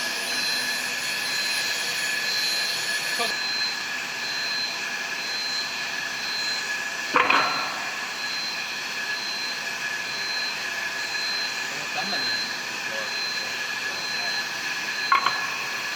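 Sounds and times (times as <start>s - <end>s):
high whine: 0.0s - 15.9s
machinery noise: 0.0s - 15.9s.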